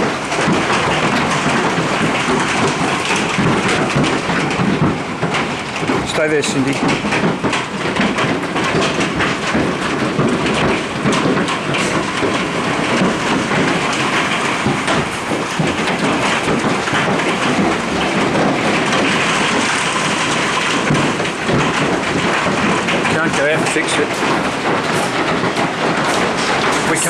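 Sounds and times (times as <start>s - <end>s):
hailstones cracking on hard surfaces: 0.0s - 27.0s.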